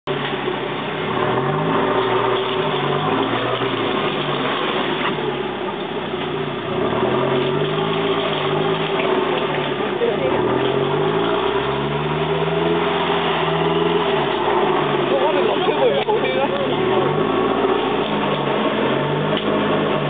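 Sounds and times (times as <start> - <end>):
steady rushing drive noise: 0.0 - 20.0
vehicle engine revving: 0.0 - 20.0.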